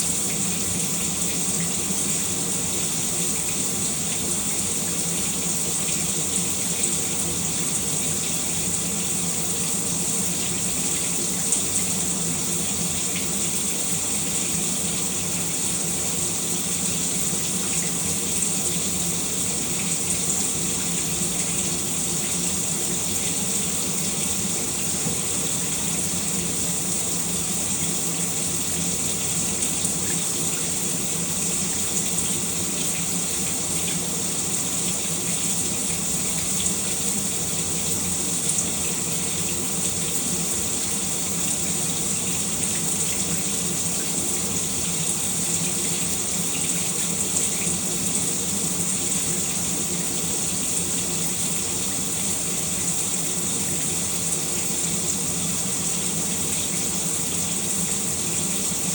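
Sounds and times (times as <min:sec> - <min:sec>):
shower running: 0:00.0 - 0:58.9.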